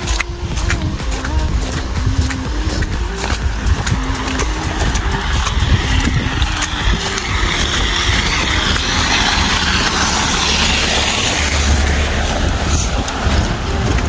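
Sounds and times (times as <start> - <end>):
steady low rumble: 0.0 - 14.0
tyres hissing on slush: 1.6 - 13.8.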